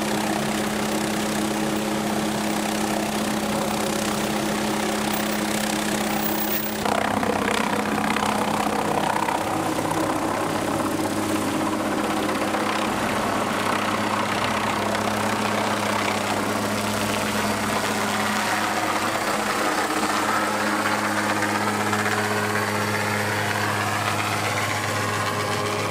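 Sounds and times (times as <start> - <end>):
helicopter rotor and turbine drone: 0.0 - 25.9
high-pitched turbine whine: 0.0 - 25.9.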